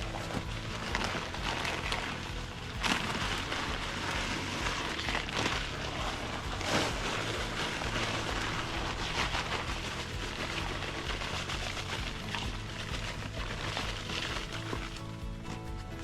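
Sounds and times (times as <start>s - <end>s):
concrete mix pouring hiss: 0.0s - 16.0s.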